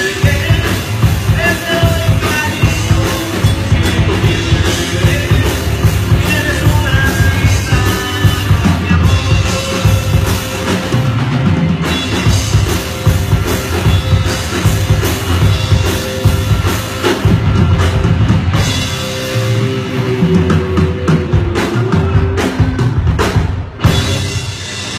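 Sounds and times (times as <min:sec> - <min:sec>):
live rock band playing: 0:00.0 - 0:24.9
pounding drum kit: 0:00.0 - 0:24.9.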